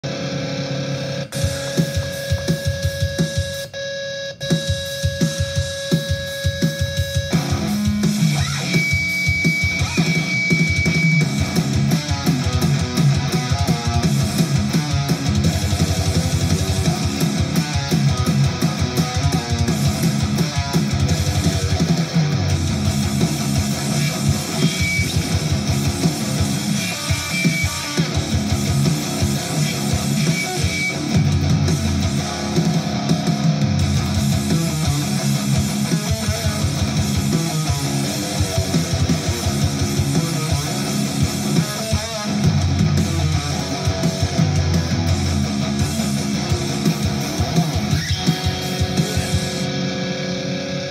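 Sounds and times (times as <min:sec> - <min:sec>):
drums: 0:00.0 - 0:50.9
heavy rock electric guitar riffs: 0:00.0 - 0:50.9.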